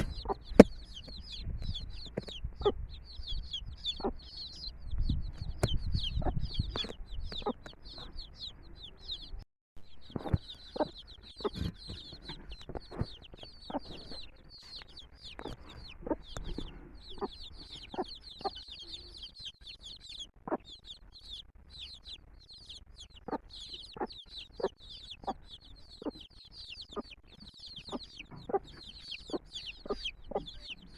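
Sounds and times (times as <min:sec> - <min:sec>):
hen clucking: 0:00.0 - 0:09.4, 0:10.0 - 0:30.9
chicks peeping: 0:00.0 - 0:30.9.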